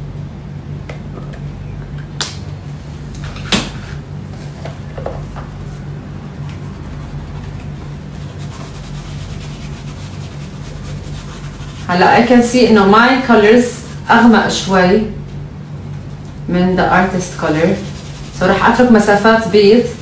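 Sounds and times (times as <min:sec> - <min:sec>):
room background hum: 0:00.0 - 0:20.0.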